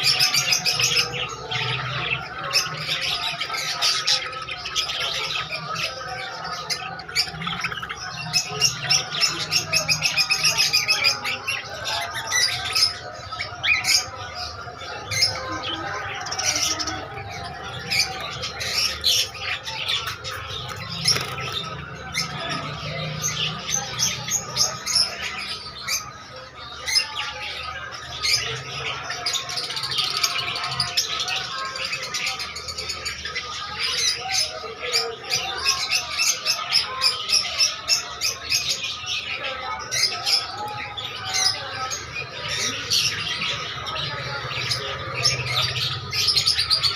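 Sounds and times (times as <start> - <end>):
caged birds chirping and squawking: 0.0 - 46.9.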